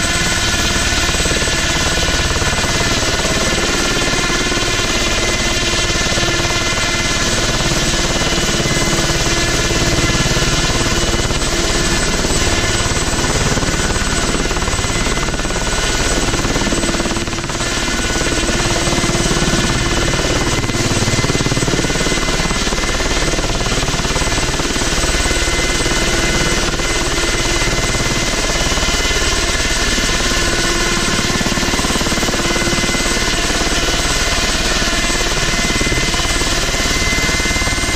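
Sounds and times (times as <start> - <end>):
helicopter engine and rotor: 0.0 - 37.9.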